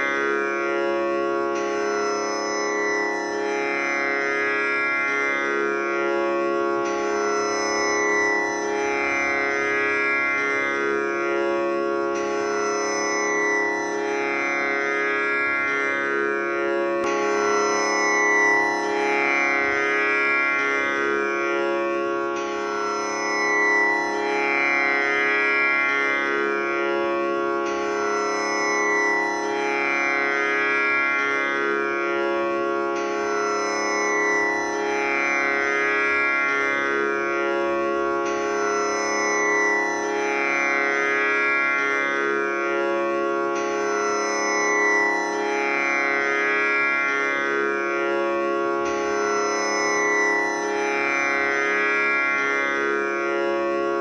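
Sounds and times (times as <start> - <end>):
tanpura drone: 0.0 - 54.0.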